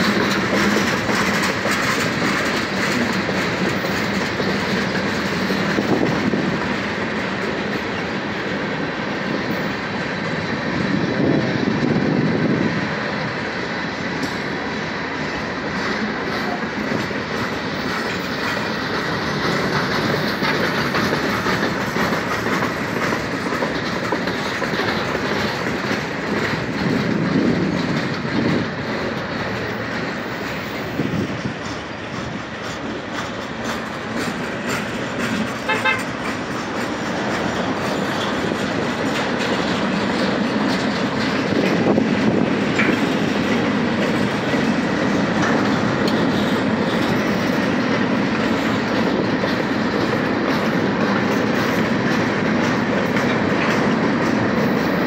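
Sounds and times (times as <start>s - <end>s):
steel wheels on rails: 0.0s - 55.0s.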